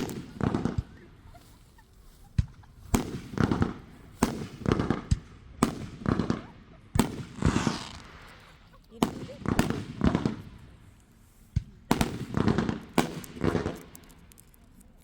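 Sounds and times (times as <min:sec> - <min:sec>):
fireworks bangs with echo: 0:00.0 - 0:01.3, 0:02.4 - 0:10.8, 0:11.5 - 0:14.1.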